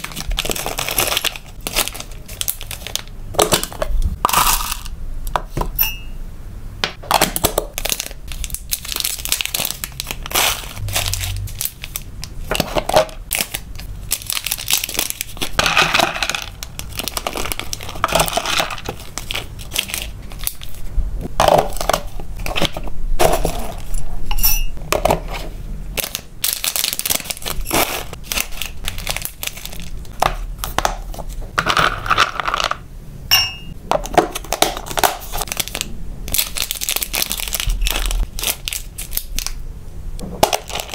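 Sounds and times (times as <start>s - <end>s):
plastic bags crinkling and tearing: 0.0s - 4.9s, 7.1s - 24.0s, 25.9s - 32.4s, 34.0s - 39.6s, 40.4s - 40.9s.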